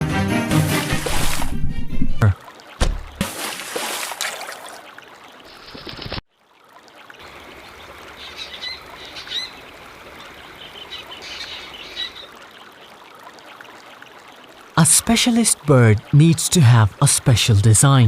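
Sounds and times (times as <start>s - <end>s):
water trickling: 0.9s - 18.0s.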